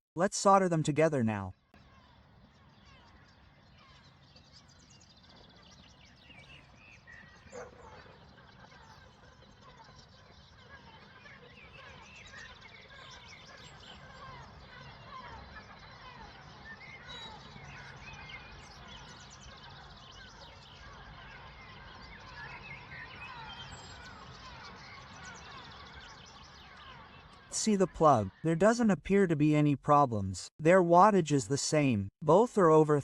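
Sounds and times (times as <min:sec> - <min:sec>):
small birds chirping: 0:00.2 - 0:33.0.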